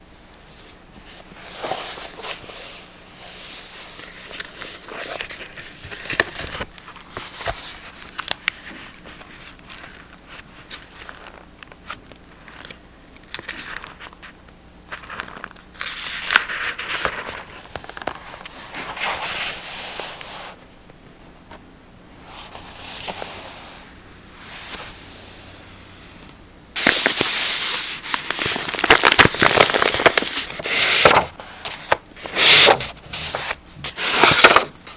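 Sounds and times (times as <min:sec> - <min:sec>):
paper crinkling and rustling: 0:00.5 - 0:20.6, 0:26.8 - 0:34.9.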